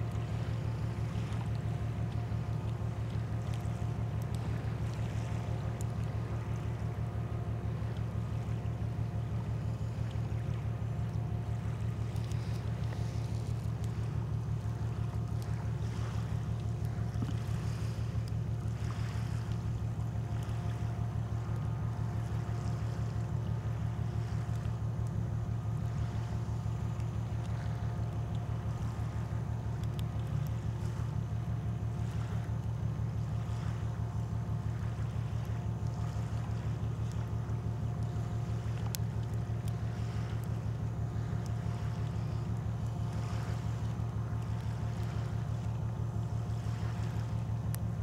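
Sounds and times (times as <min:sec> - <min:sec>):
faint steady hum tones: 0:00.0 - 0:48.0
ship engine drone: 0:00.0 - 0:48.0.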